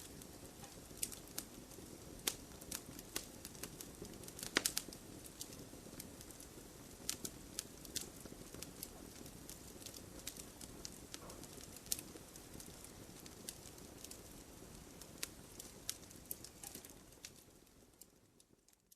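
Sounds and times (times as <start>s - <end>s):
campfire flames rushing: 0.0s - 18.7s
fire crackling and popping: 0.0s - 18.9s.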